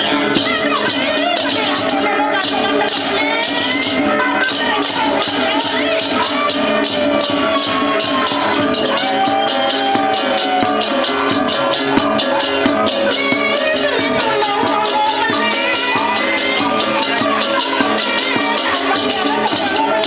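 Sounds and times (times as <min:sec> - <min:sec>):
drums: 0:00.0 - 0:20.0
gamelan music: 0:00.0 - 0:20.0
metallic bronze tones: 0:00.0 - 0:20.0
fast cymbal strokes: 0:00.4 - 0:20.0.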